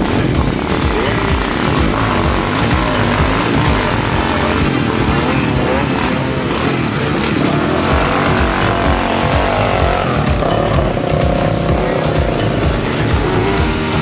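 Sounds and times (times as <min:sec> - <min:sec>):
atv engines revving: 0:00.0 - 0:14.0
music track: 0:00.0 - 0:14.0.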